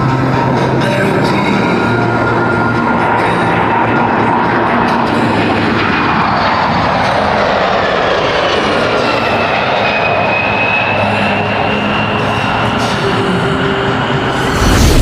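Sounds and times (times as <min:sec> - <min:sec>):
faint jet whine: 0:00.0 - 0:15.0
jet engines roaring: 0:00.0 - 0:15.0.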